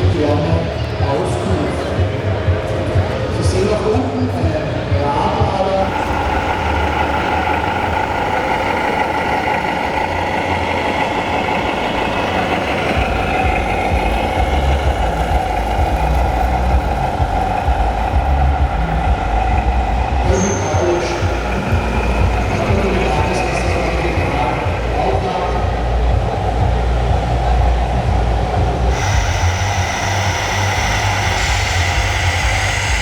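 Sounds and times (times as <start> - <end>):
model truck engine drone: 0.0 - 33.0.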